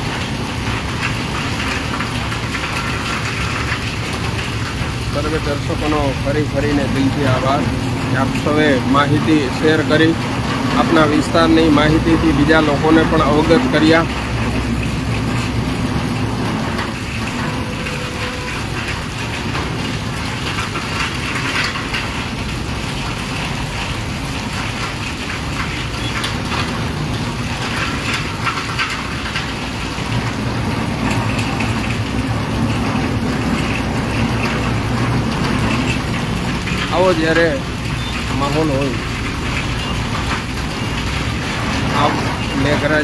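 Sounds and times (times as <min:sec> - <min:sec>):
steady rain falling: 0:00.0 - 0:43.0
vehicles passing on wet road: 0:00.0 - 0:43.0.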